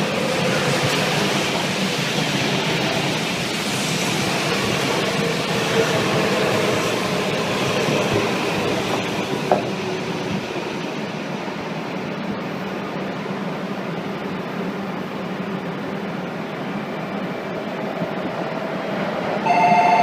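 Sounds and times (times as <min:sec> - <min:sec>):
train rolling with whining tones: 0:00.0 - 0:20.0.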